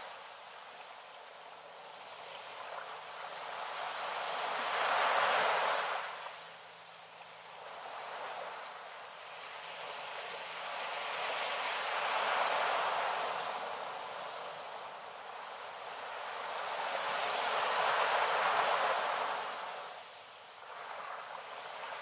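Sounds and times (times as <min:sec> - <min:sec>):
small waves washing on beach: 0:00.0 - 0:22.0.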